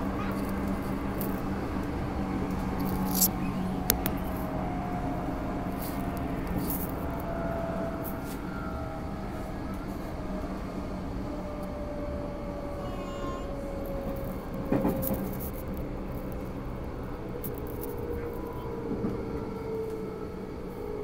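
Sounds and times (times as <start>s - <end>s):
train rumble and hum: 0.0s - 21.0s.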